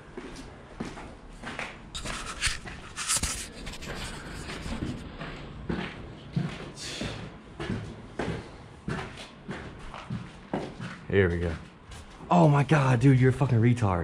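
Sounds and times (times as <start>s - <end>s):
footsteps on gritty concrete: 0.2s - 12.2s.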